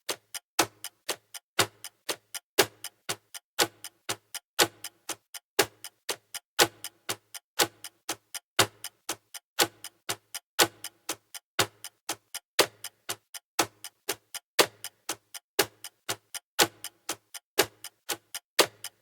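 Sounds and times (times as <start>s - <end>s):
countdown timer ticking: 0.1s - 19.0s.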